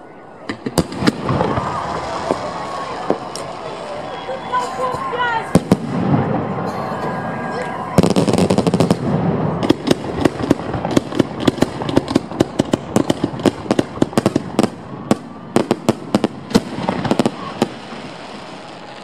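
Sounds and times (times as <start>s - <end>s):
fireworks cracks and bangs: 0.4s - 19.0s.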